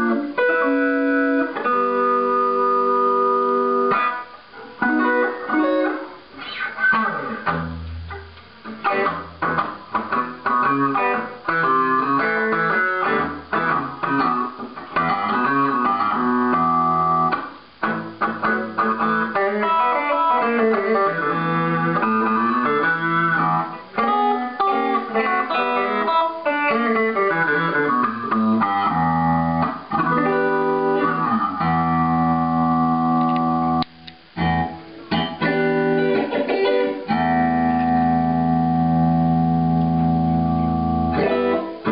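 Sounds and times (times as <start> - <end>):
electric guitar with wah effect: 0.0 - 41.9.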